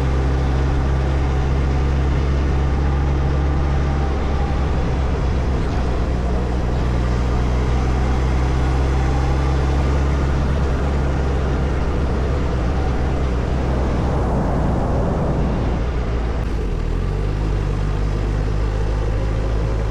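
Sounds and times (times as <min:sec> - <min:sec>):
motorcycle engine running: 0:00.0 - 0:14.6, 0:15.4 - 0:19.9.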